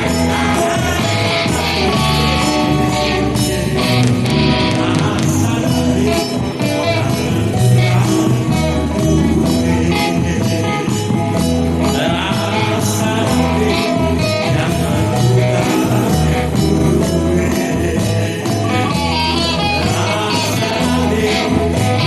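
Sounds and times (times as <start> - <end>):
bass line: 0.0 - 22.0
guitar: 0.0 - 22.0
live band music: 0.0 - 22.0.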